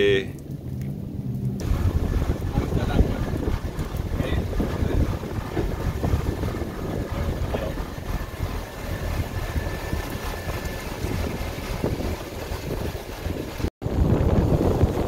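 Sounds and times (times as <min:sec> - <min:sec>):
boat engine running: 0:00.0 - 0:15.0
wind rumble on microphone: 0:00.0 - 0:15.0.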